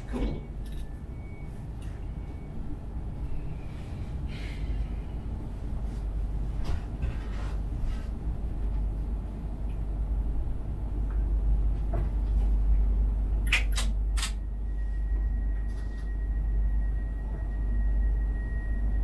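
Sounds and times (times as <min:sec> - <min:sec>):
electric train hum: 0:00.0 - 0:19.0.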